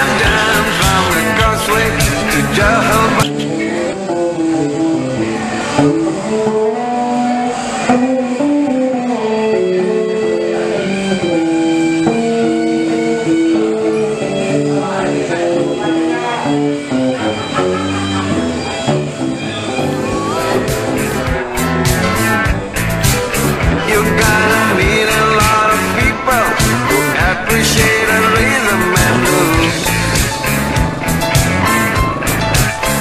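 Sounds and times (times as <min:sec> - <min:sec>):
blues electric guitar: 0:00.0 - 0:33.0.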